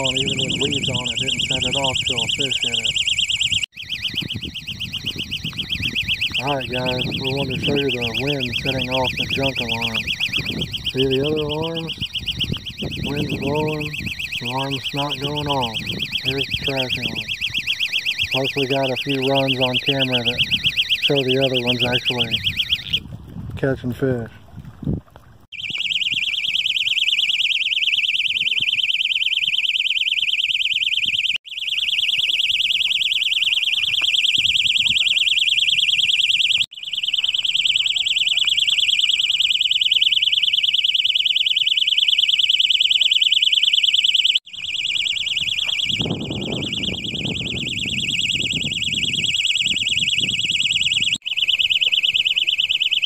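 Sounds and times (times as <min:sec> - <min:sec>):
shrill electronic bite alarm tone: 0:00.0 - 0:23.0, 0:25.5 - 0:53.0.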